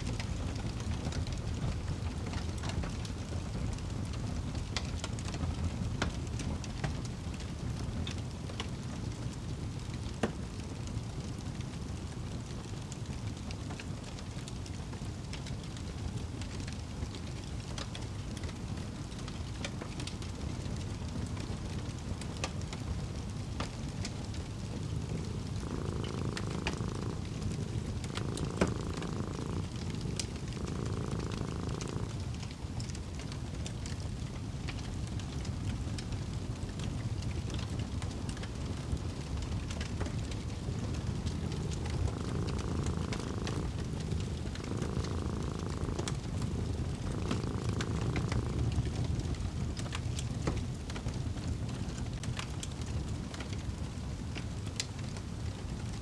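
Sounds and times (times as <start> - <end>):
cat purring: 0.0 - 56.0
fireplace crackling: 0.0 - 56.0.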